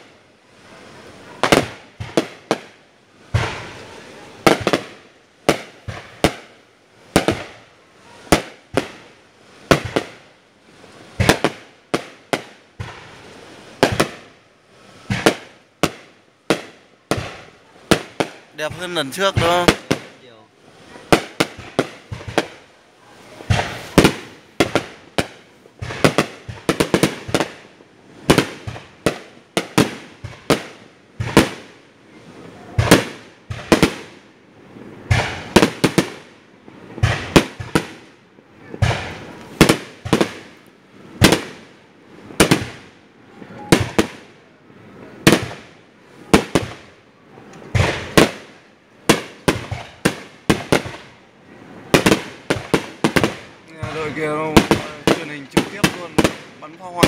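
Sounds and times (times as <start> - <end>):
fireworks bursting with echo: 0.0 - 57.0.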